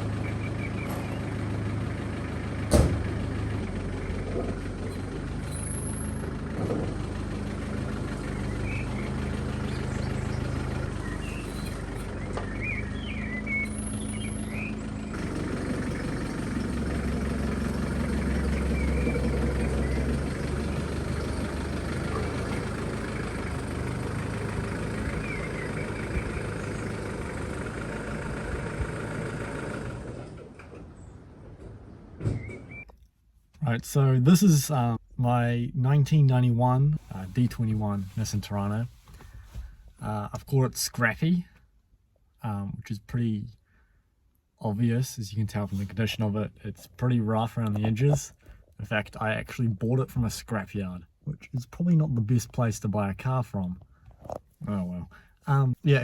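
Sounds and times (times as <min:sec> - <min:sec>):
vehicle engine running: 0:00.0 - 0:32.8, 0:33.6 - 0:40.6, 0:44.7 - 0:56.0.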